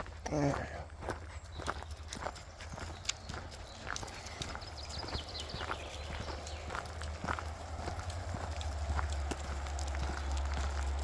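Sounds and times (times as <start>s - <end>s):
footsteps on forest path: 0.0s - 11.0s.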